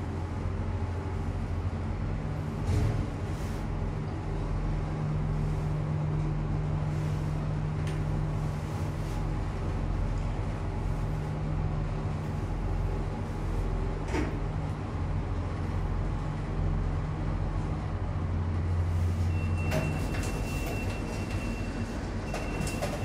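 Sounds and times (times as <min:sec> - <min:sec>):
lift car humming and rumbling: 0:00.0 - 0:23.0.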